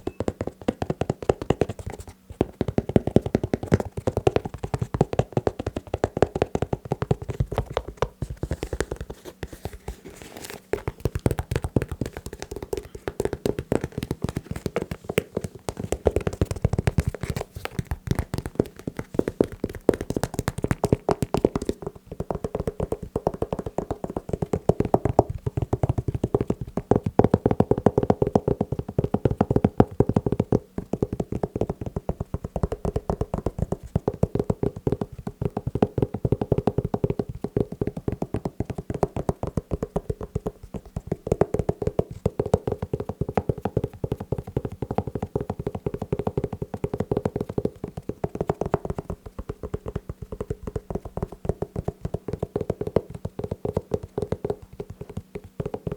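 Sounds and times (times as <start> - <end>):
fast tapping on shoes: 0.0 - 55.9.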